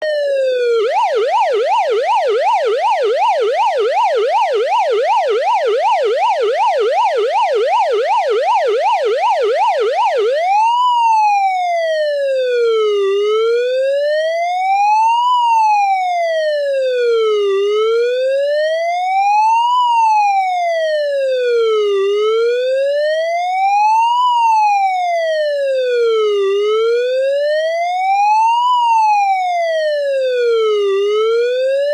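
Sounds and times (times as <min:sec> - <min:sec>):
police car siren: 0:00.0 - 0:31.9.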